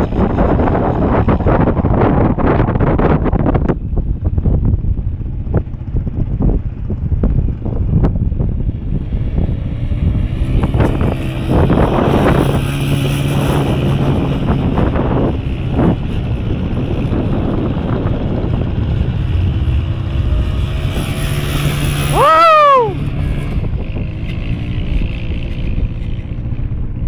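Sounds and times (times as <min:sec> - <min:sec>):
quad bike engine running: 0:00.0 - 0:27.0
wind buffeting microphone: 0:00.0 - 0:27.0.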